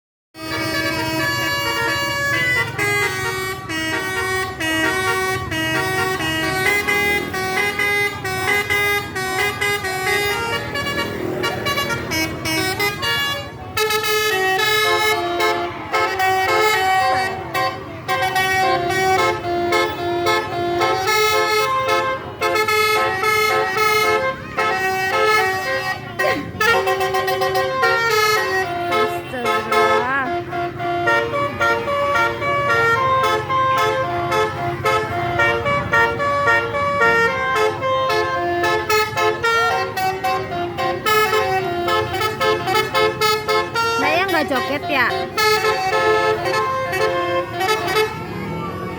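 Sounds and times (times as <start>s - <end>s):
multi-tone bus air horn tune: 0.4s - 48.9s.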